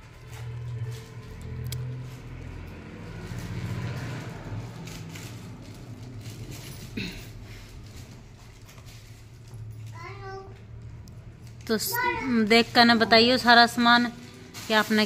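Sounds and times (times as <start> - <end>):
plastic wrapping rustling: 0.0 - 15.0.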